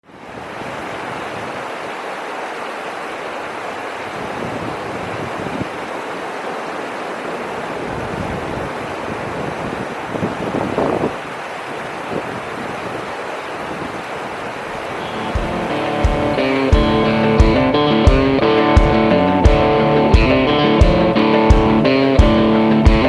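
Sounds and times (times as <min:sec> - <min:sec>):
steady rushing noise: 0:04.1 - 0:23.0.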